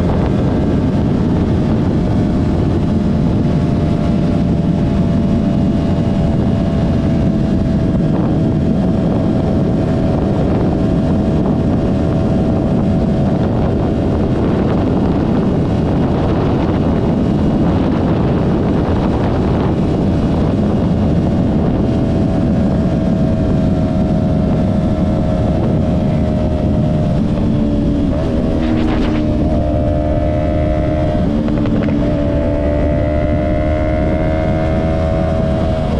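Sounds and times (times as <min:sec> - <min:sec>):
motorcycle engine cruising: 0:00.0 - 0:35.9
wind rushing over microphone: 0:00.0 - 0:35.9.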